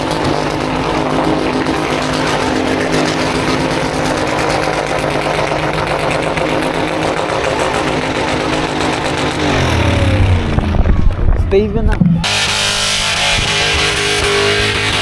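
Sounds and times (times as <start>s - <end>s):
car engine running loud: 0.0s - 15.0s.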